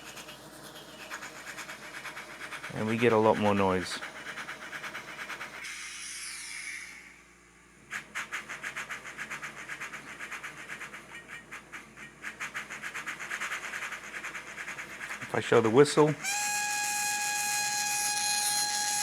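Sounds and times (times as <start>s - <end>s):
steam locomotive chuffing: 0.0s - 19.0s
steam hiss: 1.0s - 19.0s.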